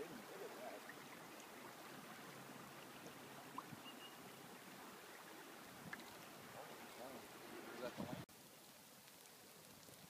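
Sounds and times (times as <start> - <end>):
paddling water noise: 0.0 - 10.0.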